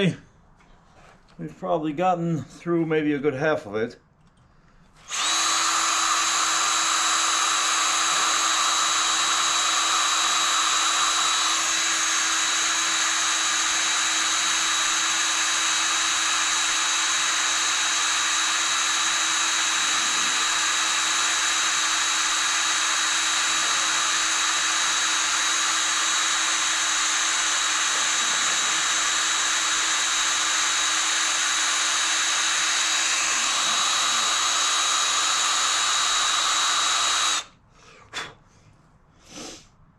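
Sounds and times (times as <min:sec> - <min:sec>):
electric drill whining under load: 0:05.0 - 0:37.5.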